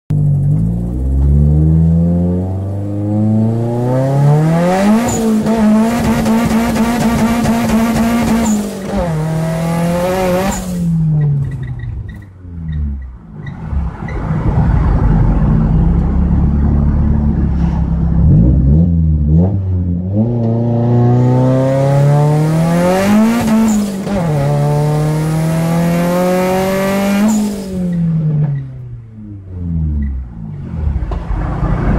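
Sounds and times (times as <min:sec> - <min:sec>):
car engine accelerating: 0:00.1 - 0:31.9
road rumble: 0:00.1 - 0:31.9.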